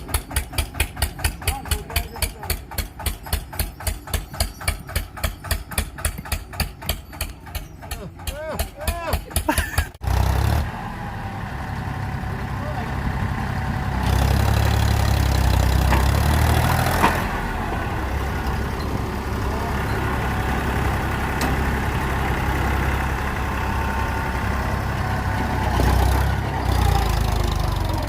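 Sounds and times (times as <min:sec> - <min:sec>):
diesel tractor engines running: 0:00.0 - 0:28.0.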